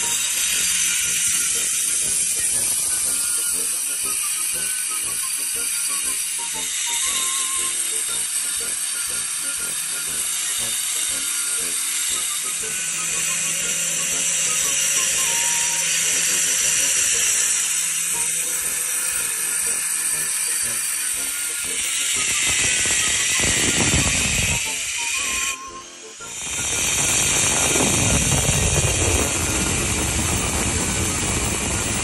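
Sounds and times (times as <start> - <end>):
angle grinder cutting stone: 0.0 - 32.0.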